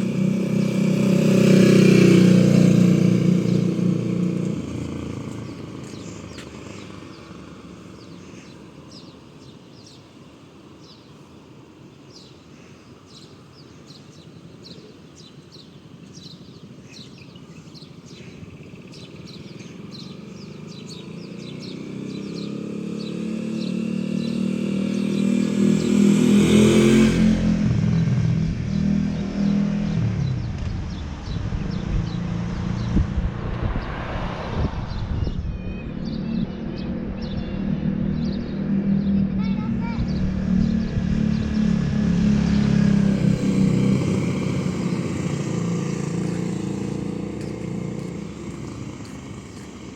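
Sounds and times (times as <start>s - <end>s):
motorcycle engine passing: 0.0s - 9.0s, 18.5s - 49.9s
birds chirping: 0.0s - 49.9s.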